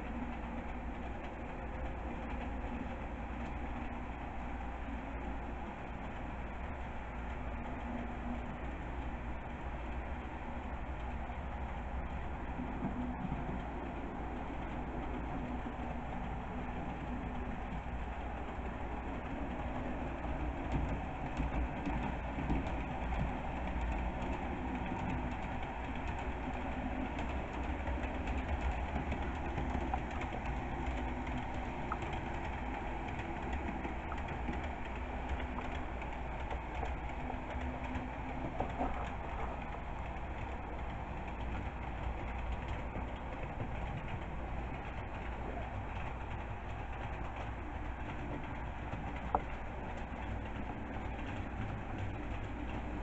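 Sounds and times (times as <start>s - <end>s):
model train rolling rumble: 0.0s - 53.0s.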